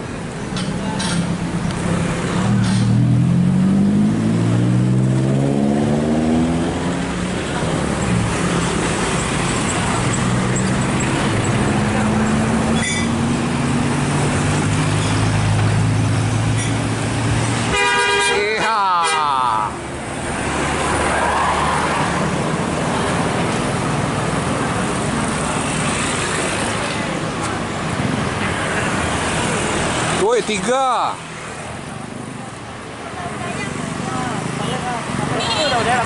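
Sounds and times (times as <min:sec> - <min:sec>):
diesel bus engines passing: 0:00.0 - 0:36.0.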